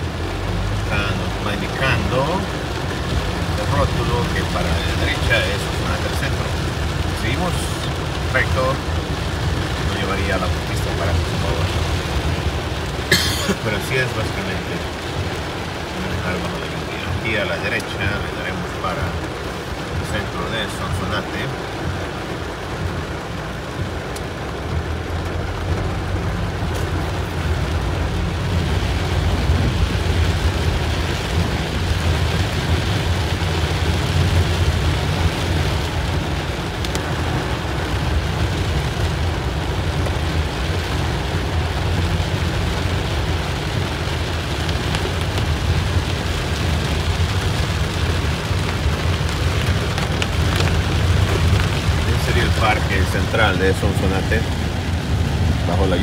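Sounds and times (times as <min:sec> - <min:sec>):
car rumble on wet road: 0:00.0 - 0:56.0
heavy rain on car roof: 0:00.0 - 0:56.0.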